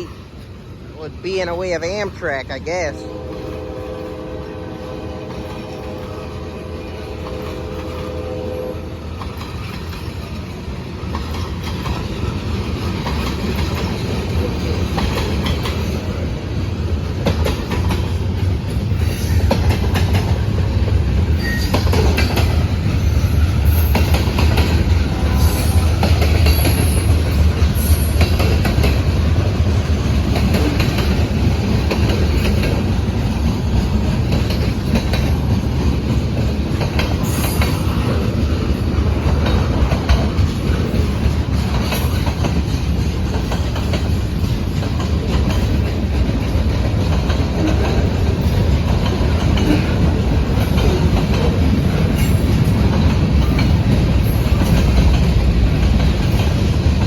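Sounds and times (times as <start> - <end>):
freight train rumbling past: 0.0 - 57.0
wheels clacking over rail joints: 9.1 - 57.0.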